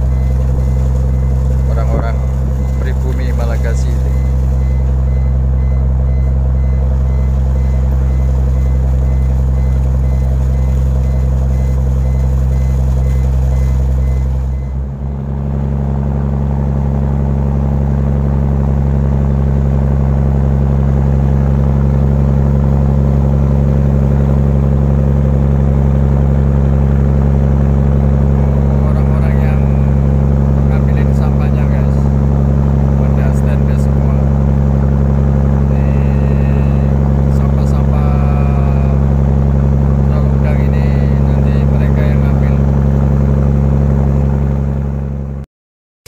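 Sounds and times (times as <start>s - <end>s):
boat engine droning: 0.0s - 45.4s.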